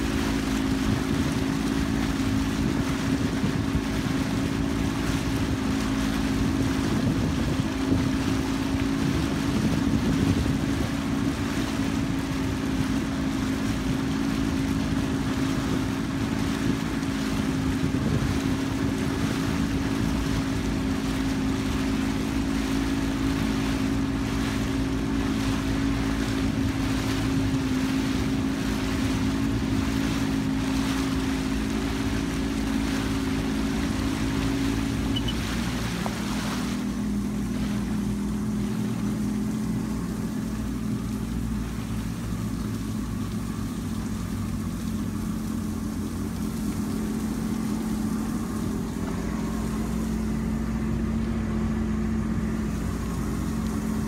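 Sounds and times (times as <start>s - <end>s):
boat motor humming: 0.0s - 54.0s
continuous rushing noise: 0.0s - 54.0s.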